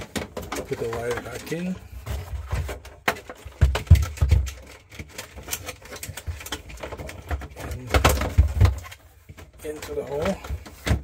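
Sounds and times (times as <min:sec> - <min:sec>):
hands handling wiring and plastic: 0:00.0 - 0:11.0.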